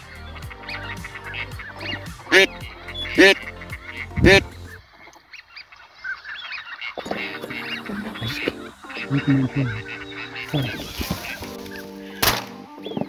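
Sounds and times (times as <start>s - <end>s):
duck quacking: 0.0s - 12.4s
small birds chirping: 0.0s - 13.0s.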